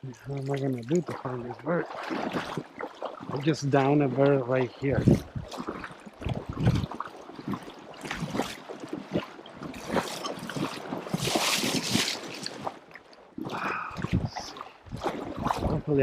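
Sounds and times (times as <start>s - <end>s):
splashing steps in water: 0.1s - 16.0s.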